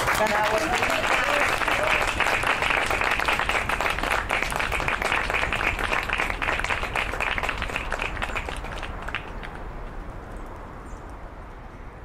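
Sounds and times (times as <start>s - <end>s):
group of people applauding: 0.0s - 9.6s.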